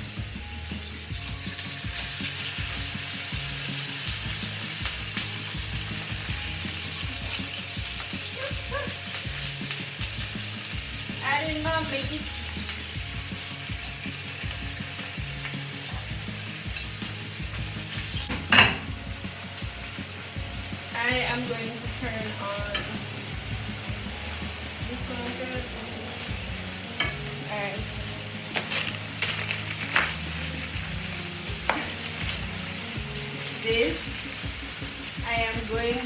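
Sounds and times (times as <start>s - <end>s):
chicken sizzling in a hot pan: 0.0s - 36.0s.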